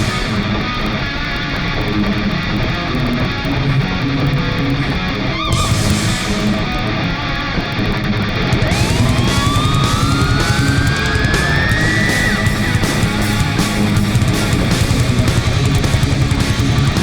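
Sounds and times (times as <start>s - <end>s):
heavy metal electric guitar music: 0.0s - 17.0s.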